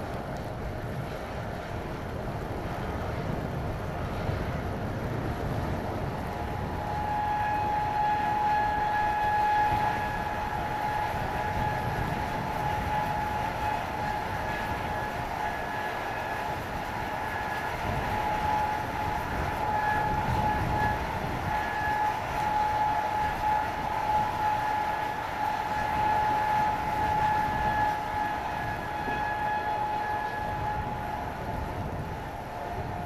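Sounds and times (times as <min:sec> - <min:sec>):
jet turbine whine: 0:00.0 - 0:33.0
wind rumbling on microphone: 0:00.0 - 0:33.0.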